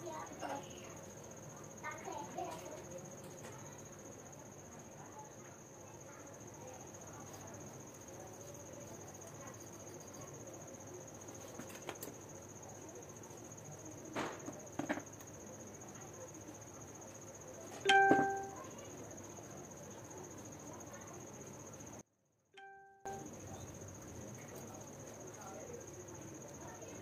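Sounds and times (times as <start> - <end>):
cricket trilling: 0.0 - 22.0, 22.6 - 27.0.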